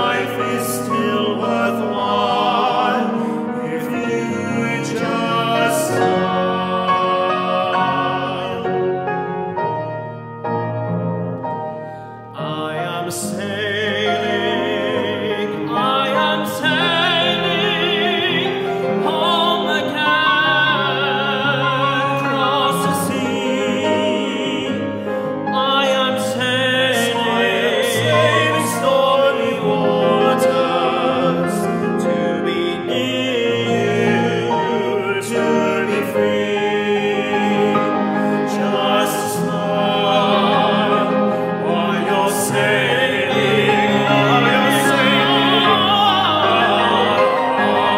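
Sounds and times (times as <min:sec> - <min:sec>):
men singing operatic duet: 0:00.0 - 0:08.9, 0:12.3 - 0:47.9
piano accompaniment: 0:00.0 - 0:47.9.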